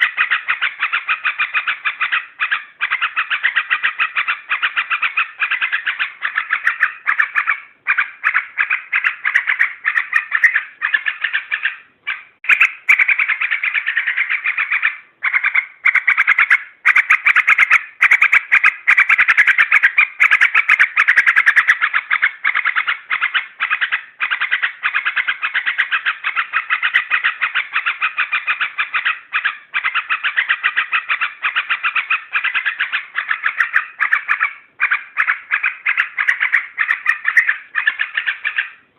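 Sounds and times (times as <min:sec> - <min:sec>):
bulbul chattering call: 0:00.0 - 0:38.9.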